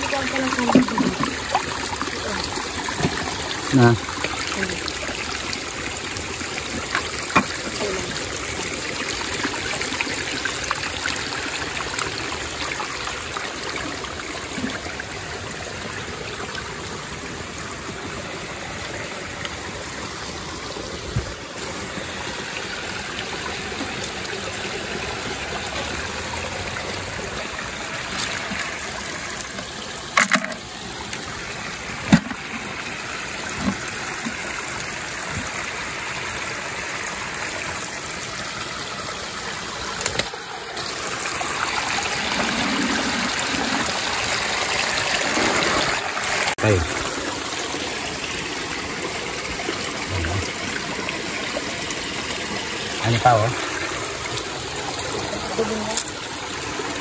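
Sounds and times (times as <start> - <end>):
creek water running over stones: 0.0 - 57.0.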